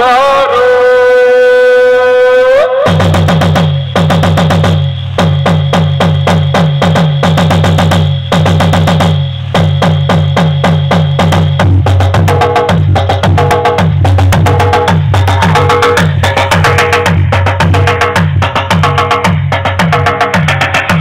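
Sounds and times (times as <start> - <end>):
dance music over loudspeakers: 0.0 - 21.0.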